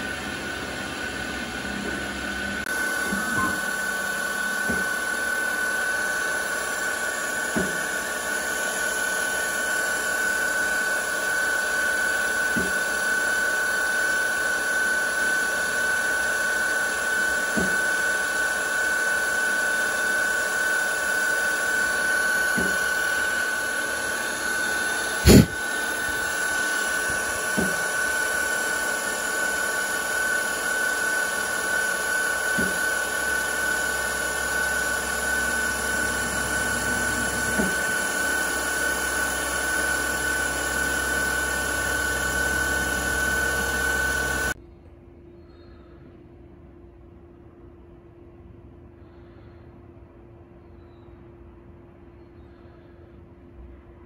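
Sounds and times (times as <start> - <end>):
milling machine whine: 0.0 - 44.6.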